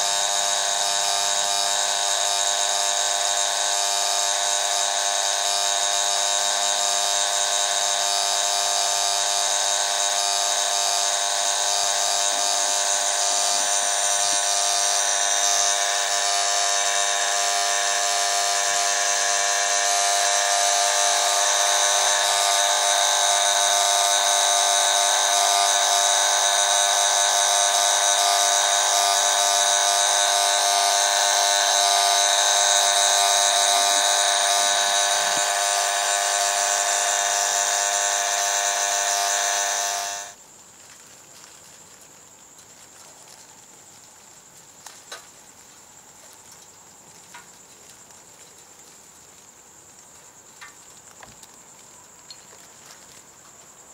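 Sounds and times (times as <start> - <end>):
electrical buzz from lamp ballast: 0.0 - 40.5, 42.3 - 53.9.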